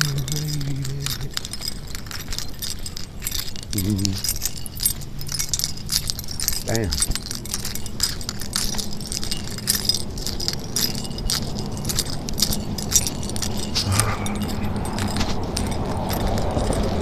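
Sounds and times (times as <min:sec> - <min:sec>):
small metal items jingling: 0:00.0 - 0:17.0.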